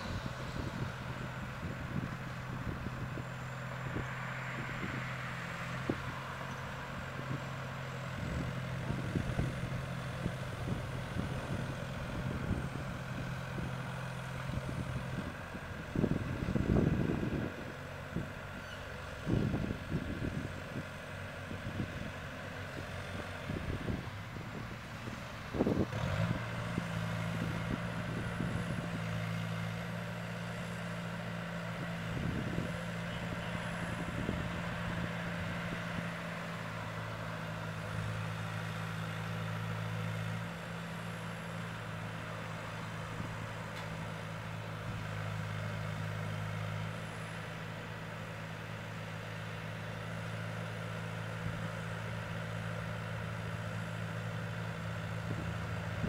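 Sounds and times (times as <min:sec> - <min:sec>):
machinery engine humming: 0:00.0 - 0:56.0.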